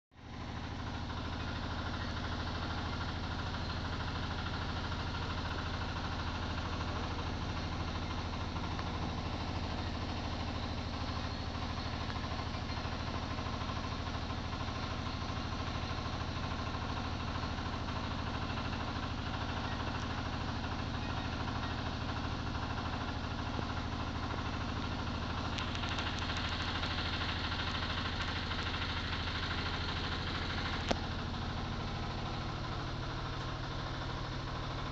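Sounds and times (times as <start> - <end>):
engine idling hum: 0.1 - 34.9.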